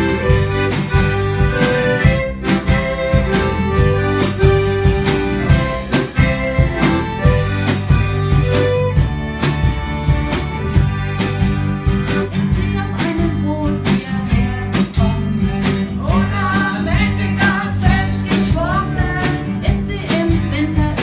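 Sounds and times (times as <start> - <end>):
band music with bass and guitar: 0.0 - 21.0.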